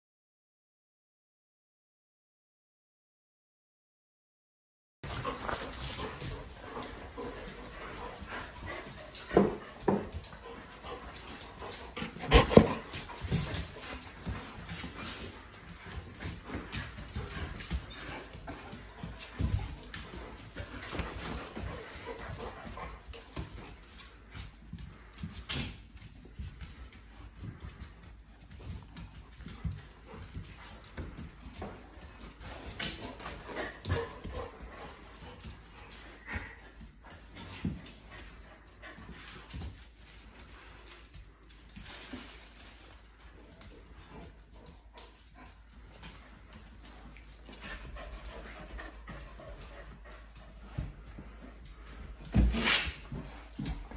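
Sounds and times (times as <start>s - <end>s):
dogs scuffling on hard floor: 5.0s - 53.9s.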